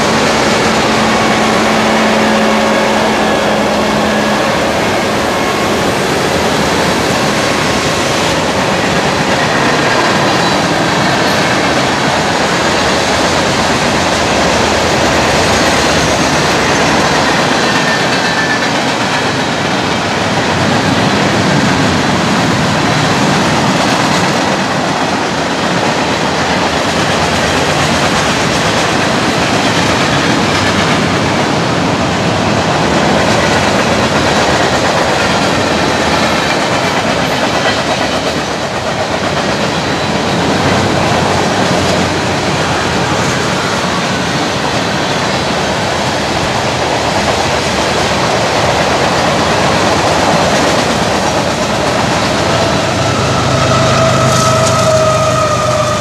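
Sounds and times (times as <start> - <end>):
steel wheels on rails: 0.0 - 56.0.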